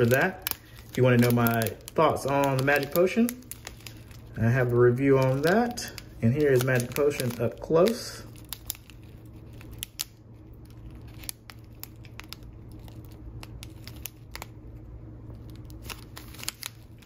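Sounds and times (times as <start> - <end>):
plastic sachet crinkling: 0.0 - 17.0
steady low hum: 0.0 - 17.0.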